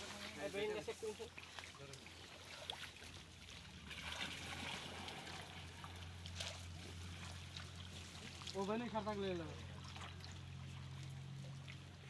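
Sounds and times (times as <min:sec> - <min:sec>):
low steady hum: 0:00.0 - 0:12.0
water splashing and trickling: 0:00.0 - 0:12.0.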